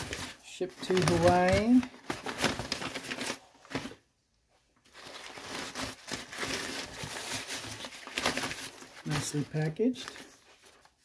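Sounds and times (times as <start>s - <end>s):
packing paper crumpling: 0.0s - 4.0s, 4.8s - 11.0s.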